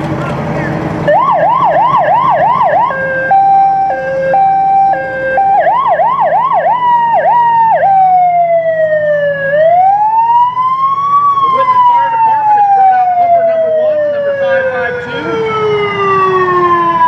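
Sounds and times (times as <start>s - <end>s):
electronic siren cycling tones: 1.1s - 17.0s.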